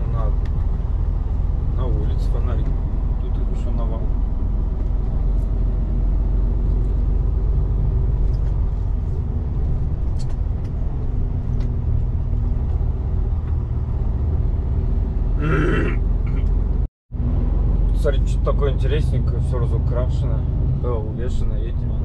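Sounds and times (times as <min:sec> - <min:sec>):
truck diesel engine drone: 0:00.0 - 0:21.9.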